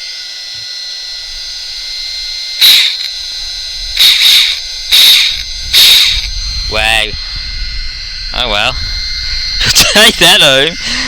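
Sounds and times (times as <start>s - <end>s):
electric motor whirring: 0.0s - 11.0s.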